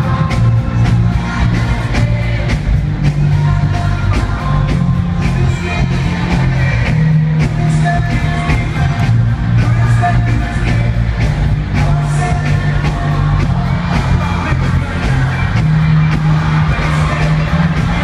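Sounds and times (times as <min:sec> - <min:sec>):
drums keeping steady beat: 0:00.0 - 0:18.0
live rock band playing: 0:00.0 - 0:18.0.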